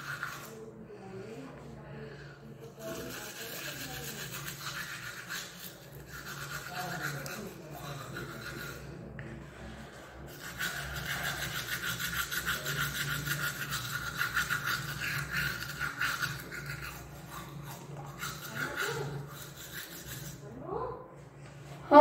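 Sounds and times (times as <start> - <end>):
toothbrush scrubbing teeth: 0.0 - 1.4, 2.6 - 20.5.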